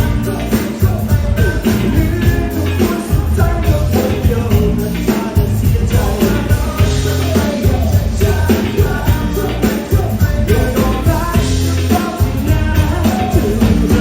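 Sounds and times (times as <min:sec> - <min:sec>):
live band playing pop-rock: 0:00.0 - 0:14.0
person singing: 0:00.0 - 0:14.0.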